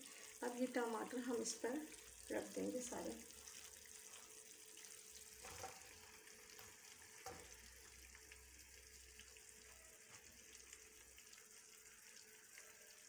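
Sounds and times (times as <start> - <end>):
meat sizzling in a wok: 0.0 - 13.0.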